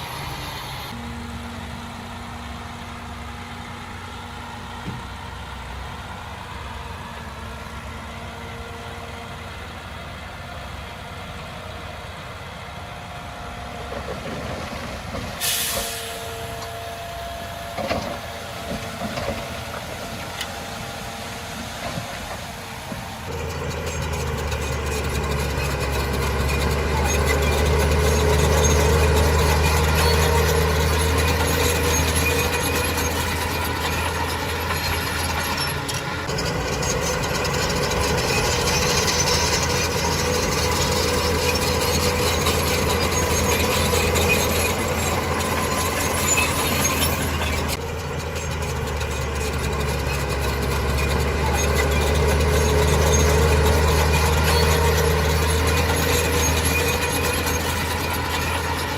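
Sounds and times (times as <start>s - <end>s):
diesel engine humming: 0.0s - 58.9s.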